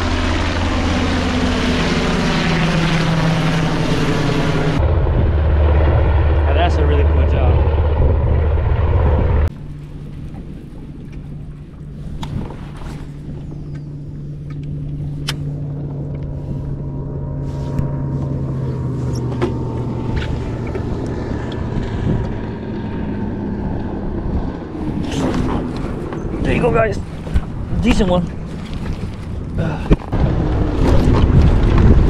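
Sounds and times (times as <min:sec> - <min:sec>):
low rumble: 0:00.0 - 0:32.0.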